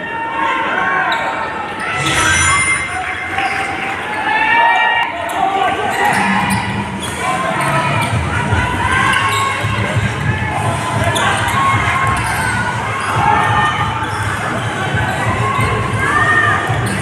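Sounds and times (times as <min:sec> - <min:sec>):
arena crowd din: 0:00.0 - 0:17.0.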